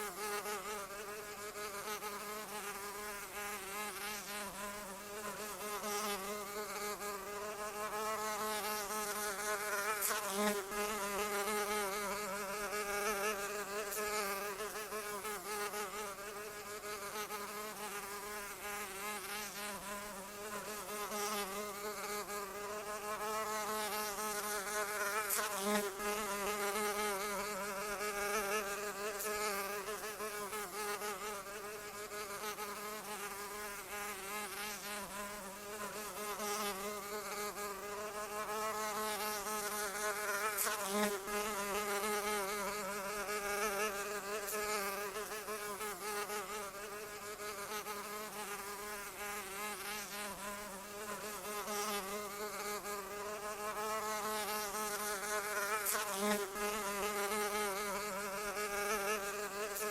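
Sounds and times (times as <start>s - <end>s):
insect wings buzzing: 0.0s - 59.9s.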